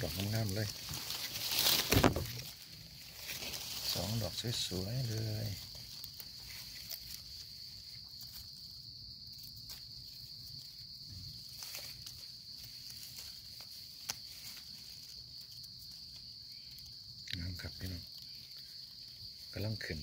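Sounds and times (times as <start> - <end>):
insects droning: 0.0 - 20.0
leaf litter rustling: 0.0 - 20.0.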